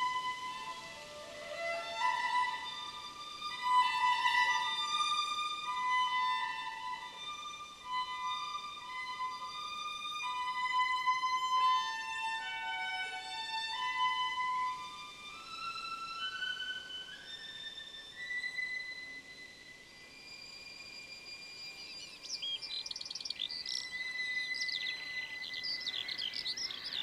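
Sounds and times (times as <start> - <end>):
solo violin slow melody: 0.0 - 27.0.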